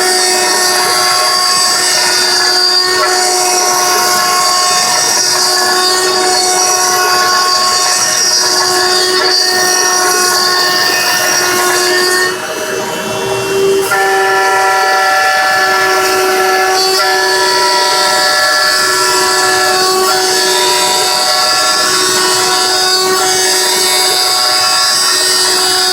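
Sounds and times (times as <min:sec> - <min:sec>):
router spindle whining while cutting: 0:00.0 - 0:25.9.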